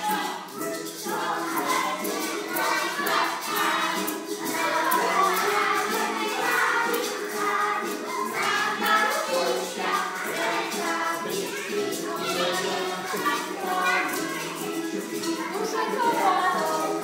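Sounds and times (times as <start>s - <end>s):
children's dance song over loudspeakers: 0.0s - 17.0s
group of voices singing: 0.0s - 17.0s.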